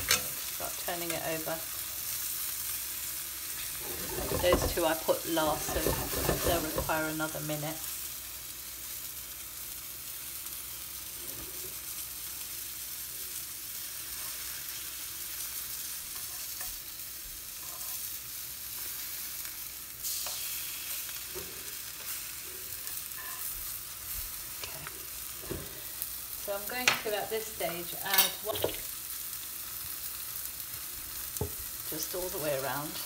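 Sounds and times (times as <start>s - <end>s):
chicken sizzling in oil: 0.0s - 33.0s.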